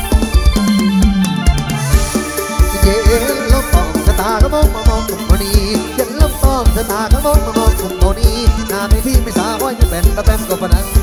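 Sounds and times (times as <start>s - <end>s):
electric keyboard chords: 0.0s - 11.0s
heavy drum beat: 0.0s - 11.0s.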